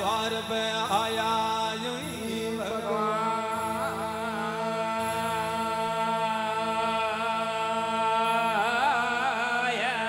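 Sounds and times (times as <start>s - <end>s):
devotional folk singing: 0.0s - 10.0s.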